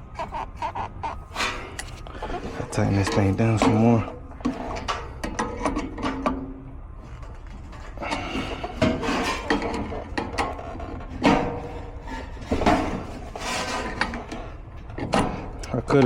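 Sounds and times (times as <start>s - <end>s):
metal scraping: 0.0s - 16.0s.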